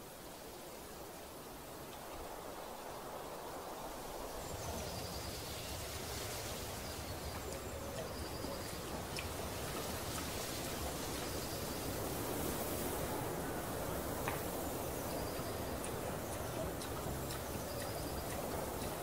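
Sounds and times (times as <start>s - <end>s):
steady rushing noise: 2.1s - 19.0s.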